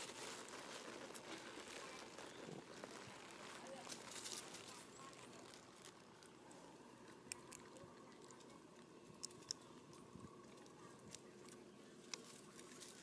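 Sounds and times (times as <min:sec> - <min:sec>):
monkey chewing food: 0:00.0 - 0:13.0.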